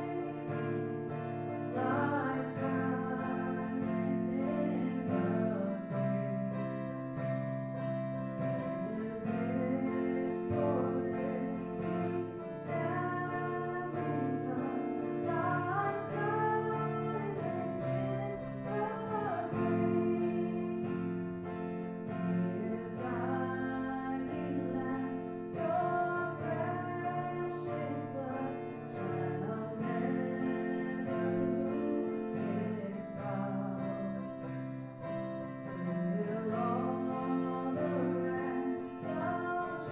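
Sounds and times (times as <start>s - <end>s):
guitar plucked and strummed: 0.0s - 39.9s
person singing: 0.0s - 39.9s.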